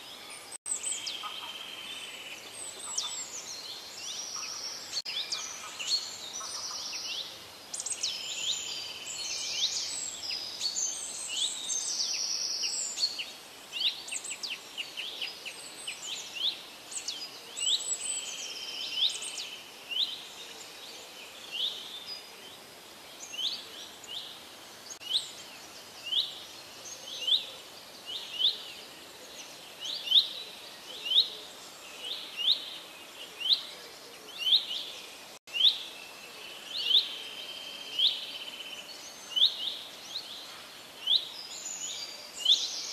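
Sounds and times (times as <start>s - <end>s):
birds singing: 0.0s - 42.9s
faint steady hiss: 0.0s - 42.9s.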